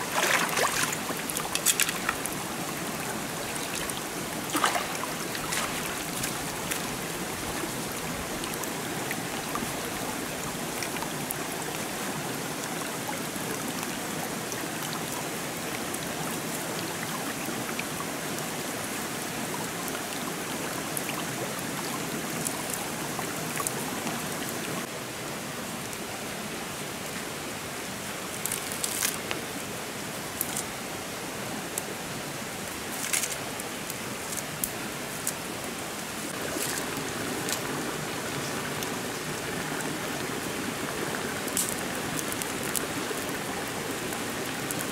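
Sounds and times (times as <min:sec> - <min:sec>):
shallow stream running: 0:00.0 - 0:44.9.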